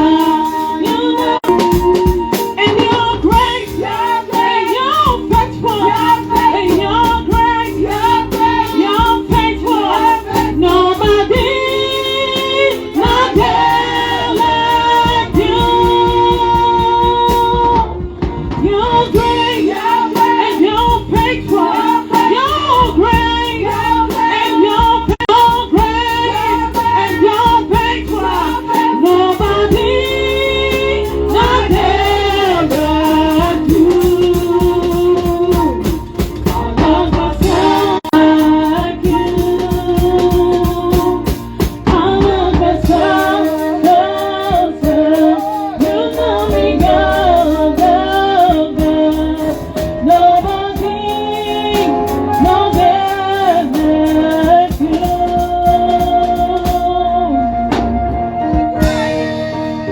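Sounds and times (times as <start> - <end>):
band with bass and drums: 0.0 - 59.9
woman singing: 0.0 - 59.9.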